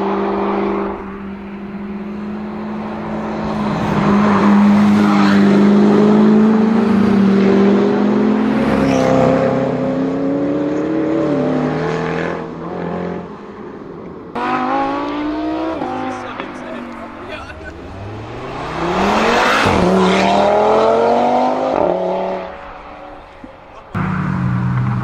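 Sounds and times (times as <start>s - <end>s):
sports car engines accelerating: 0.0s - 25.0s.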